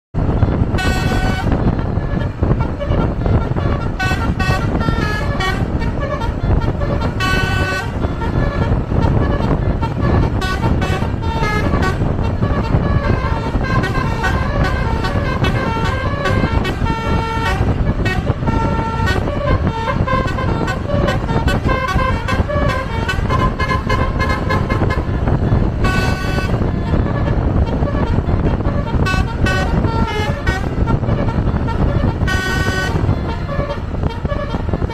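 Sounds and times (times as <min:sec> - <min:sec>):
low rumble of vehicles: 0:00.1 - 0:34.9
bus multi-tone horns: 0:00.2 - 0:34.9.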